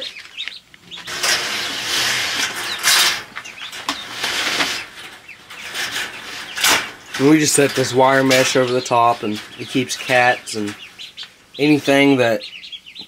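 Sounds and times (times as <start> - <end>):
wire mesh scraping on metal: 0.8 - 12.1.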